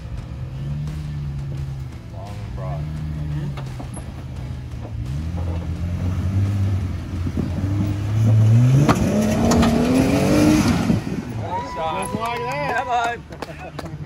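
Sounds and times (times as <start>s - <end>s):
truck engine revving: 0.0s - 12.5s
tires scrabbling on rock: 0.0s - 14.0s.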